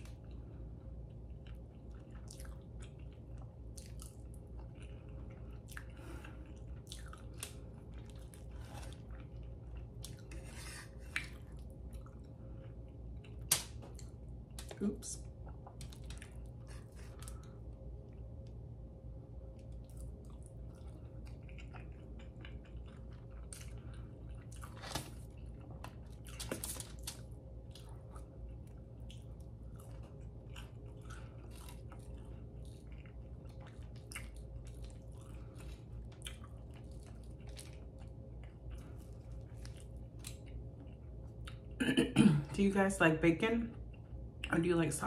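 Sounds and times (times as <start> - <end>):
person chewing food: 0.0 - 14.7, 15.3 - 41.8
faint steady hum: 0.0 - 45.0.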